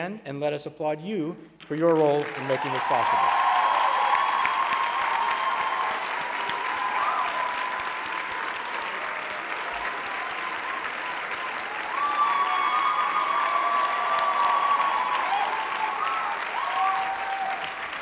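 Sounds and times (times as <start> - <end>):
audience applauding: 1.7 - 18.0.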